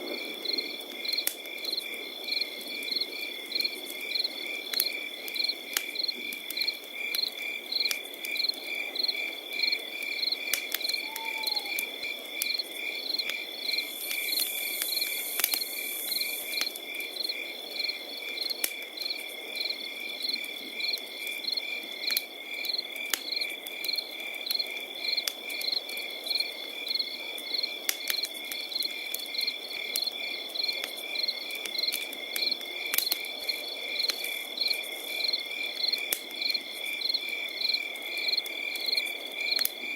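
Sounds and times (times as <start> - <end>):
campfire crackling and popping: 0.0 - 39.9
crickets chirping: 0.1 - 39.9.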